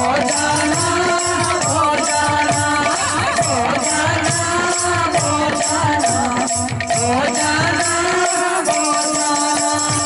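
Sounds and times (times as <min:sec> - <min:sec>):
woman singing into microphone: 0:00.0 - 0:10.0.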